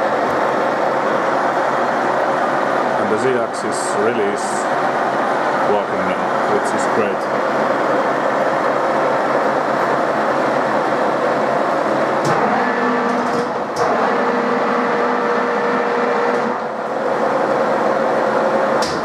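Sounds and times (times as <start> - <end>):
milling machine spindle whirring: 0.0 - 19.0.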